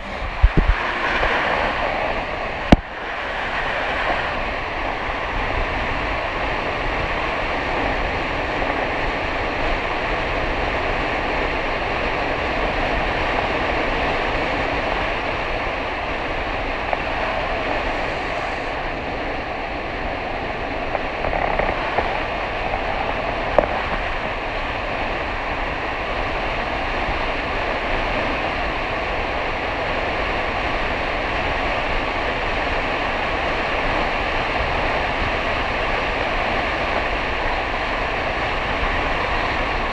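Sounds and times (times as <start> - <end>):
wheels hissing on wet asphalt: 0.0 - 39.9
wind rushing past microphone: 0.0 - 39.9.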